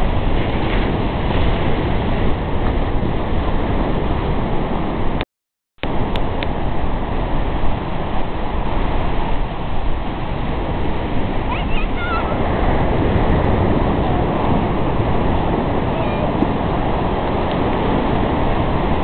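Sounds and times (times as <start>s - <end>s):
ocean surf washing onto beach: 0.0s - 5.2s, 5.8s - 19.0s
wind noise on microphone: 0.0s - 5.2s, 5.8s - 19.0s.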